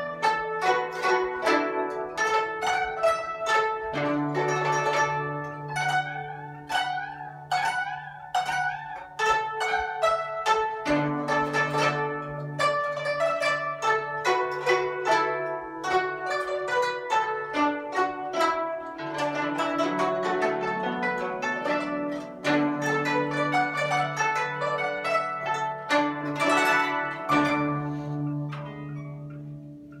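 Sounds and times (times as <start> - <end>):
plucked zither-like string melody: 0.0 - 30.0.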